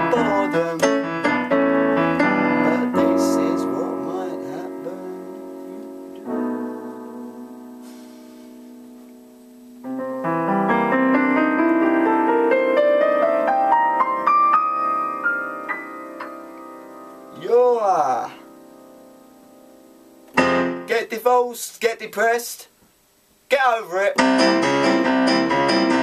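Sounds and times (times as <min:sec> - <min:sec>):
electronic keyboard piano notes: 0:00.0 - 0:20.9, 0:24.2 - 0:26.0.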